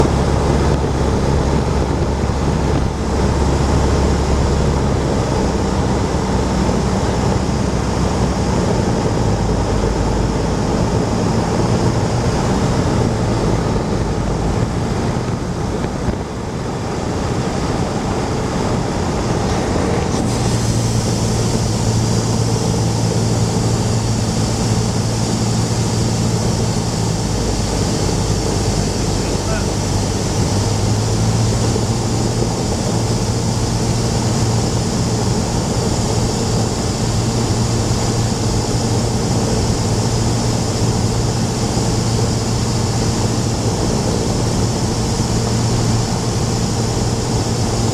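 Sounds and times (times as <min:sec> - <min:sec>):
propeller plane engine droning: 0:00.0 - 0:47.9.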